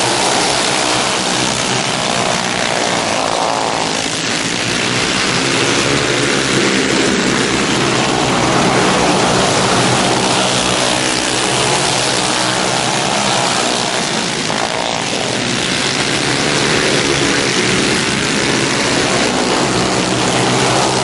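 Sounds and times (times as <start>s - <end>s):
racing kart engines high-revving: 0.0s - 21.0s.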